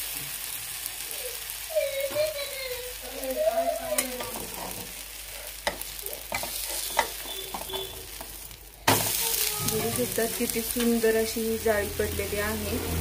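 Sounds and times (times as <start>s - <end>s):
crepe sizzling in oil: 0.0s - 13.0s.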